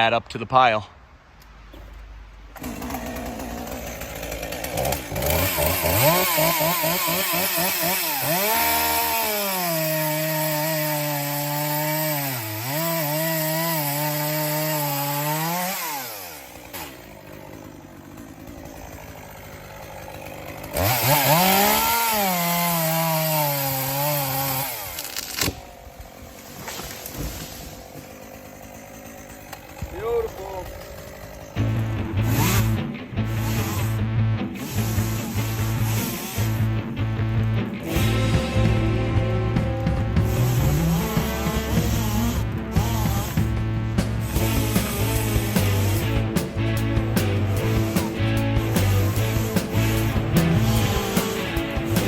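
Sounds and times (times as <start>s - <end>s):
chainsaw cutting wood: 1.7s - 52.0s.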